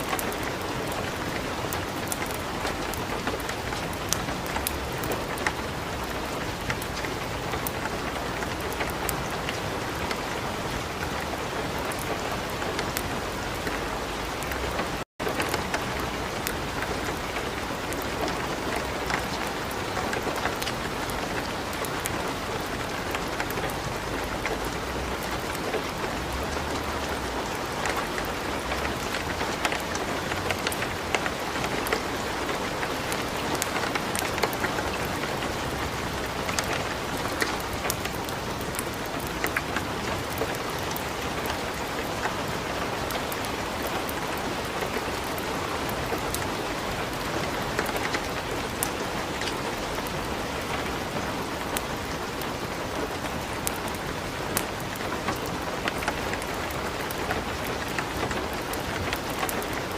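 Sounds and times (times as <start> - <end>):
wood fire crackling: 0.0 - 42.4, 47.1 - 59.9
light rain falling: 0.0 - 59.9.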